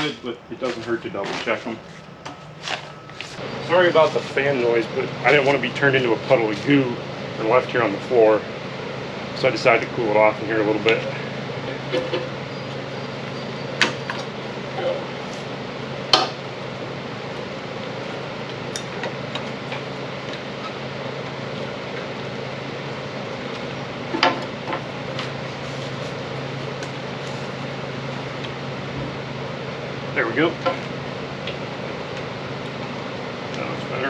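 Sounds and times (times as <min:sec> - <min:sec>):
cooling fan whirring: 0:00.0 - 0:34.0.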